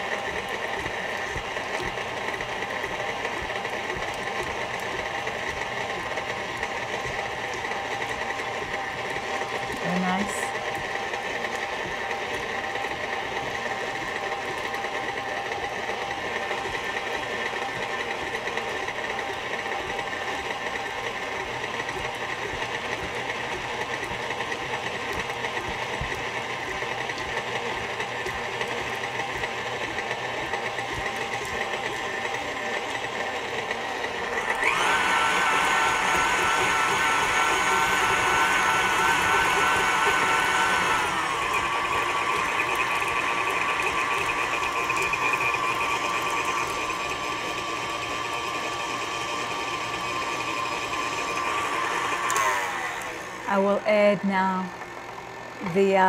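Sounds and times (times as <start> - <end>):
stand mixer running: 0.0 - 56.0.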